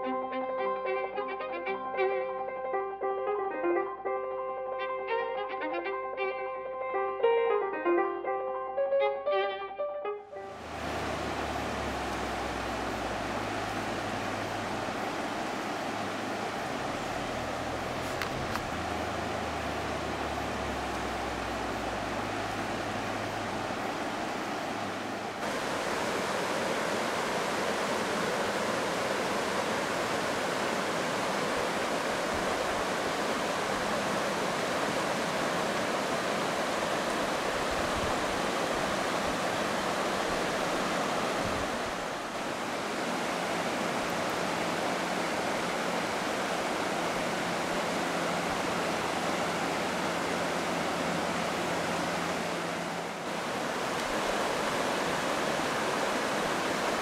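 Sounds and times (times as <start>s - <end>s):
river water rushing over stones: 10.5s - 57.0s.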